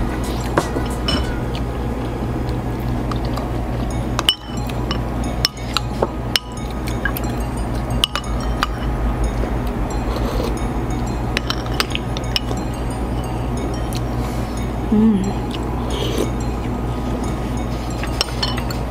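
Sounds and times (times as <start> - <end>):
low hum: 0.0 - 18.9
utensils clinking on a bowl: 0.2 - 1.7, 3.0 - 18.9.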